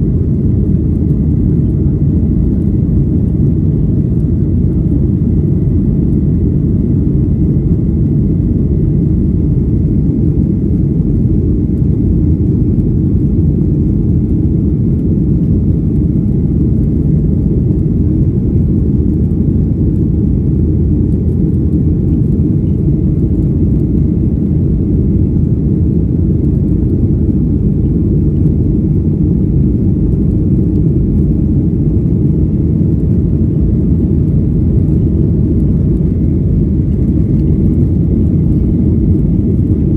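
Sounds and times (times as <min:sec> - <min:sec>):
jet engines and airflow rumble: 0:00.0 - 0:39.9.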